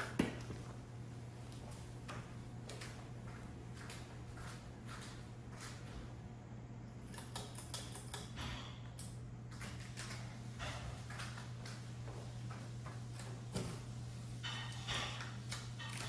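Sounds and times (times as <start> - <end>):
ceiling fan hum: 0.0 - 16.0.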